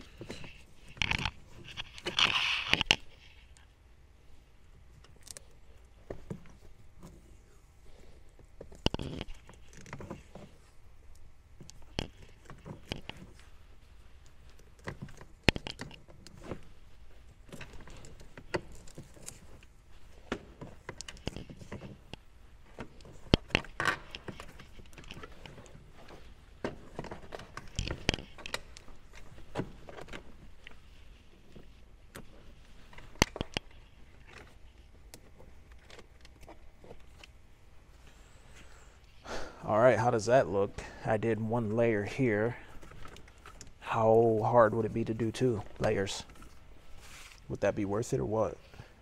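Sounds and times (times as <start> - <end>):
tape rustling and crackling: 0.0 - 39.2, 41.7 - 47.6.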